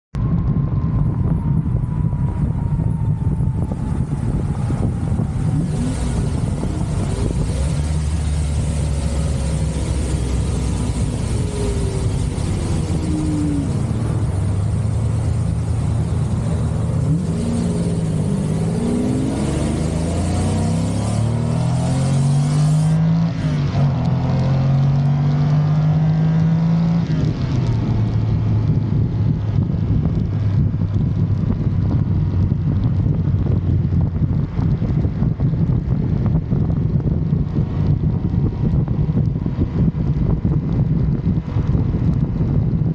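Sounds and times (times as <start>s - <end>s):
sports car engine accelerating: 0.3s - 42.9s.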